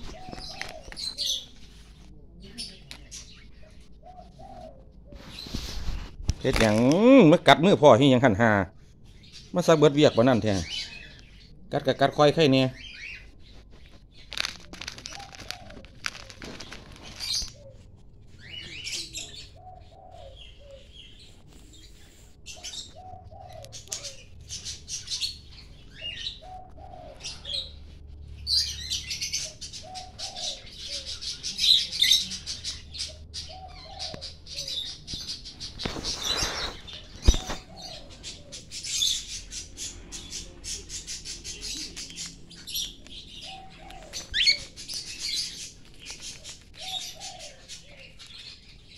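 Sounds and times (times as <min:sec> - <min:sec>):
birds chirping shrilly: 0:00.0 - 0:01.6, 0:02.5 - 0:48.9.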